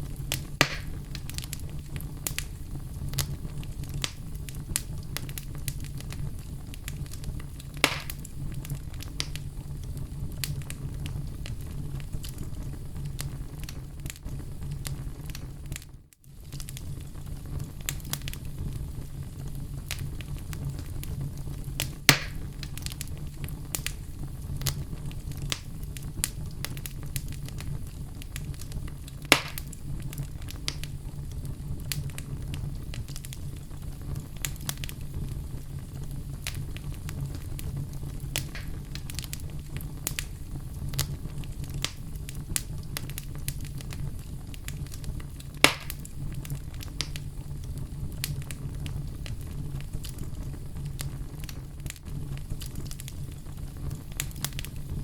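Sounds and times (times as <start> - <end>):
fire flames rumbling: 0.0 - 55.0
wood crackling and popping: 0.0 - 55.0.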